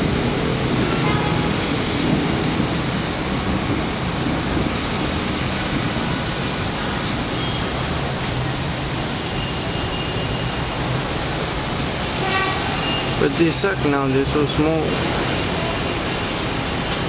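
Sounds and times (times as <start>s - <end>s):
city traffic roar: 0.0s - 17.0s.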